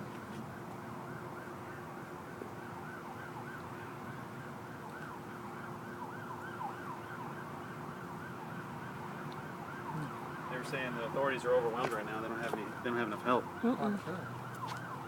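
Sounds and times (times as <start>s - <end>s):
sirens yelping: 0.0s - 15.0s.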